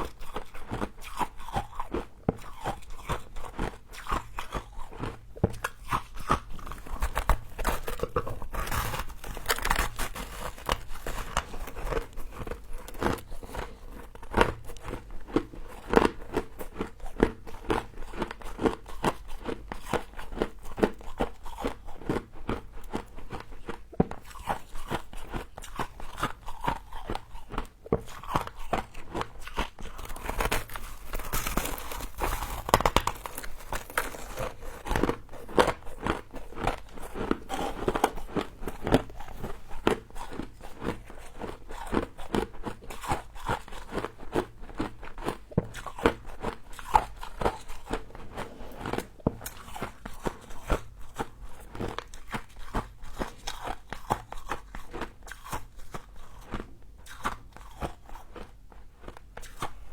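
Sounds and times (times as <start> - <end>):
crunching frost between teeth: 0.0 - 59.8.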